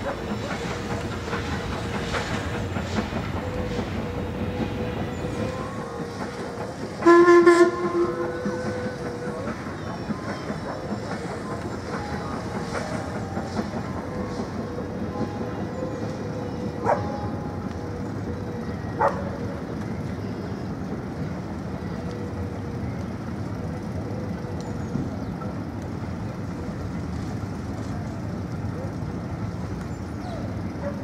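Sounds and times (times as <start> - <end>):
train wheels rumbling and clattering: 0.0 - 31.0.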